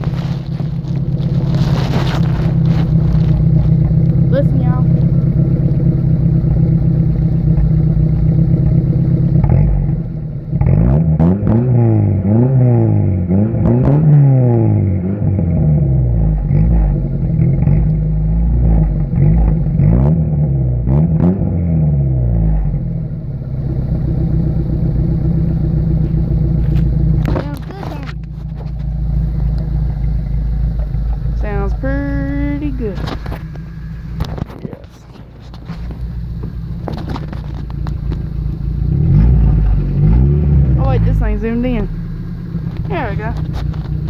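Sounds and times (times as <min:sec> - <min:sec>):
engine idling and revving: 0:00.0 - 0:44.0.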